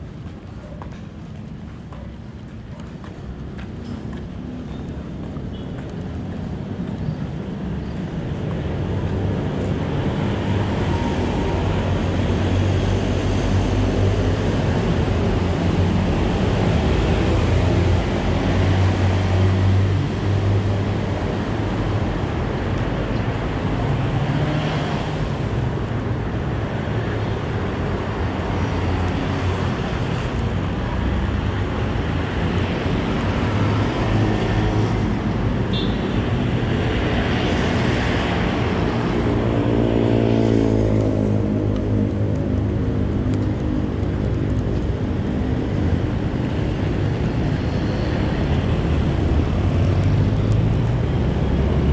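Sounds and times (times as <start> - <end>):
vehicle and road noise: 0.0 - 51.9.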